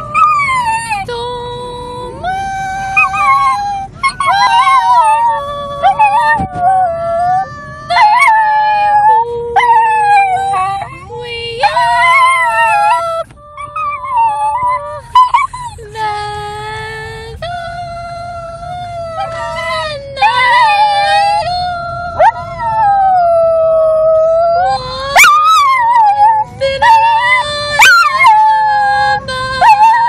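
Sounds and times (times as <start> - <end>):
dog howling: 0.0 - 1.1, 2.8 - 15.6, 19.1 - 30.0.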